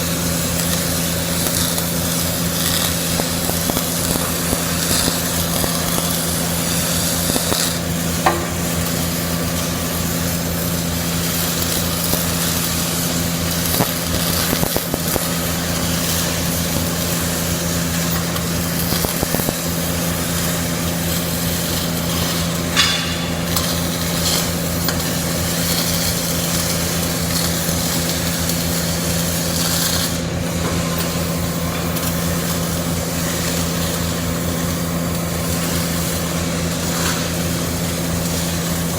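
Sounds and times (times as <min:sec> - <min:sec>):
welding arc sizzling and crackling: 0:00.0 - 0:38.9.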